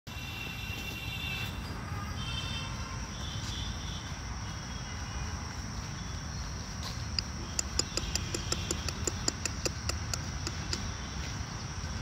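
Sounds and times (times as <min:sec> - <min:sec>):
insect drone: 0:00.1 - 0:12.0.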